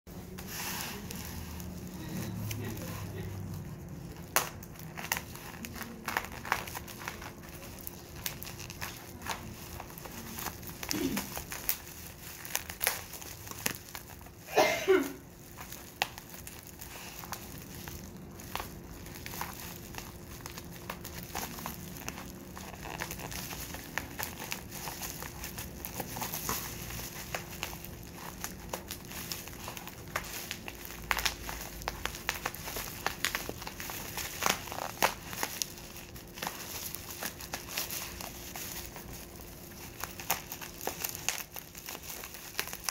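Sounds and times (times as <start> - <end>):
bubble wrap crinkling: 0.1 - 42.9.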